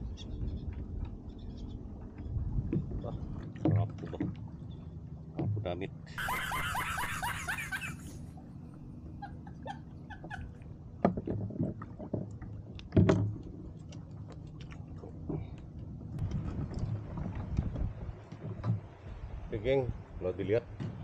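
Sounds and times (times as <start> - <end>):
low rumble of wind and water: 0.0 - 21.0.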